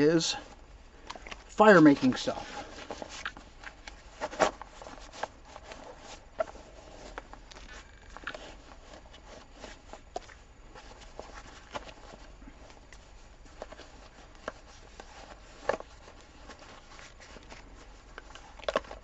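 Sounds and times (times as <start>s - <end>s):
fabric rustling and scraping: 0.0s - 19.0s.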